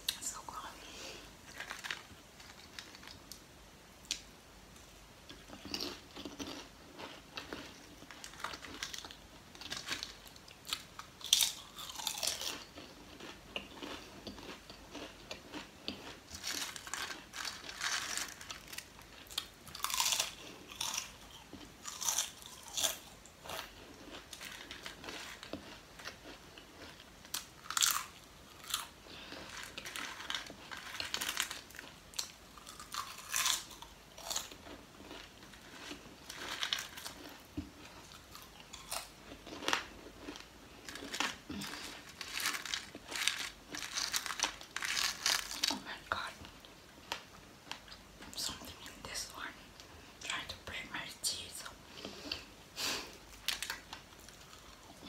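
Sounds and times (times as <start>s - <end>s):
potato chips crunching: 1.5s - 3.4s, 5.3s - 46.3s, 52.8s - 55.0s.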